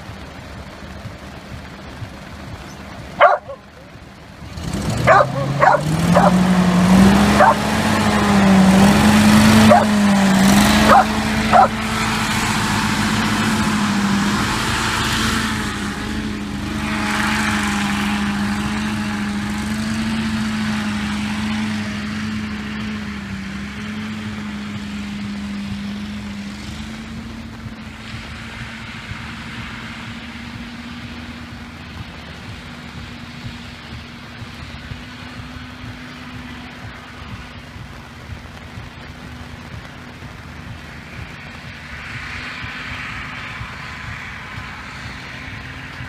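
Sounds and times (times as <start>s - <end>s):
hovercraft engine and fan: 0.0s - 46.0s.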